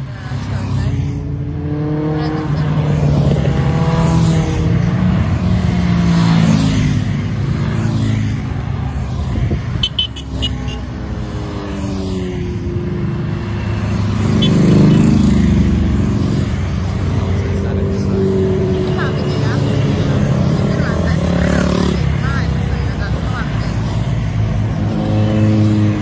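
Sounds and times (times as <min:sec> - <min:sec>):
motorcycles riding past: 0:00.0 - 0:26.0.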